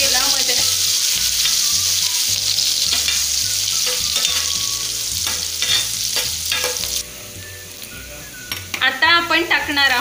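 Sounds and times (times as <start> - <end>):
chillies sizzling in hot oil: 0.0 - 10.0.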